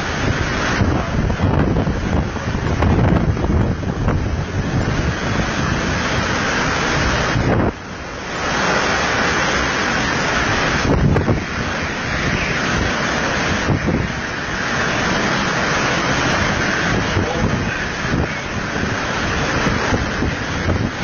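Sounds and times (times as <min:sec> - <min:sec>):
gusty wind on microphone: 0:00.0 - 0:21.0.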